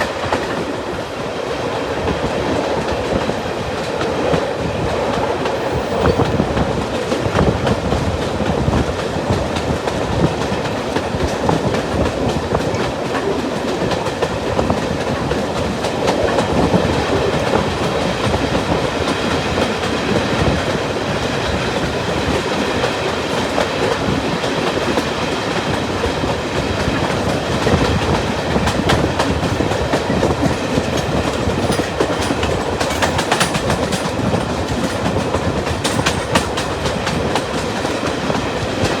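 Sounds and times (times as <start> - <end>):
train wheels clattering over rails: 0.0 - 39.0.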